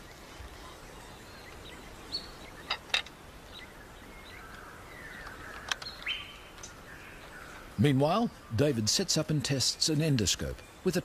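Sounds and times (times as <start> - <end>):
bird calls: 0.0 - 11.0
steady low hiss: 0.0 - 11.0.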